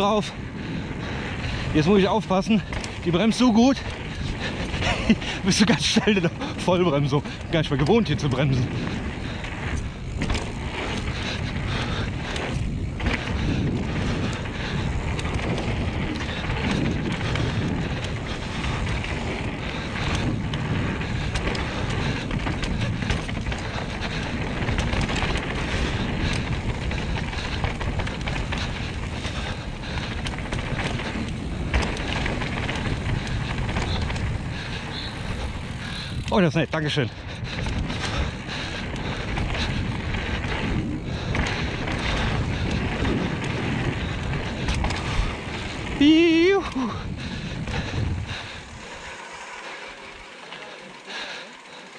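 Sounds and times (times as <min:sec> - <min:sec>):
wind rushing over microphone: 0:00.0 - 0:50.5
bike clicks and rattles: 0:00.0 - 0:51.9
bike tyres on loose dirt: 0:00.0 - 0:51.9.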